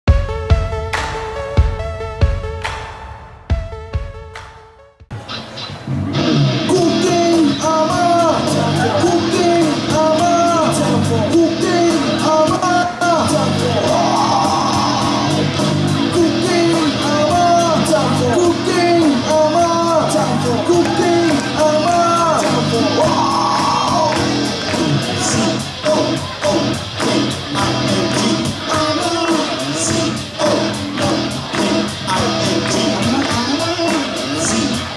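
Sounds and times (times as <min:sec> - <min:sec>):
rock band playing: 0:00.1 - 0:04.3, 0:05.1 - 0:34.9
person singing: 0:06.6 - 0:34.9.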